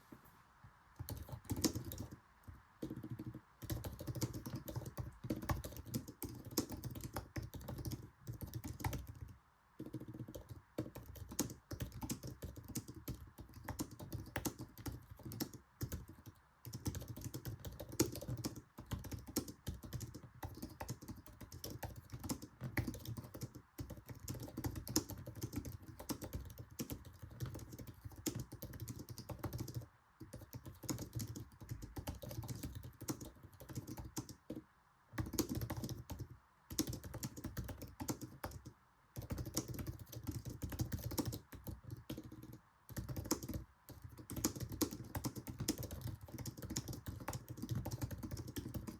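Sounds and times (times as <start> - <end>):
fast typing on a keyboard: 1.0 - 34.6, 35.2 - 48.9.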